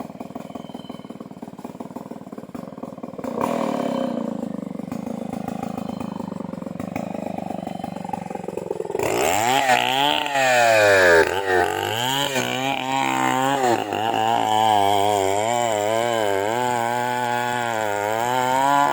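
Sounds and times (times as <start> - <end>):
chainsaw engine running and revving: 0.0 - 18.9.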